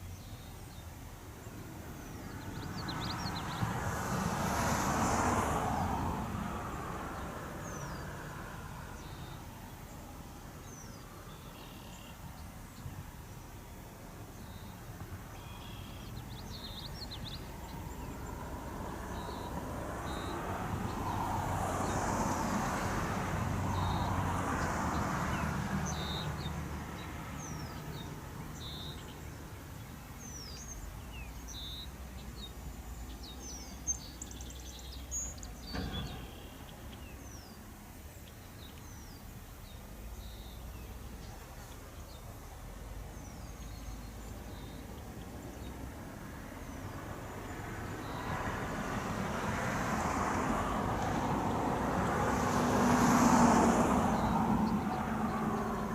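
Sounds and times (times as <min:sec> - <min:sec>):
small birds chirping: 0:00.0 - 0:03.8, 0:07.1 - 0:21.2, 0:23.7 - 0:48.8, 0:50.6 - 0:55.9
vehicle passing by: 0:01.7 - 0:12.0, 0:14.5 - 0:37.6, 0:40.1 - 0:55.9.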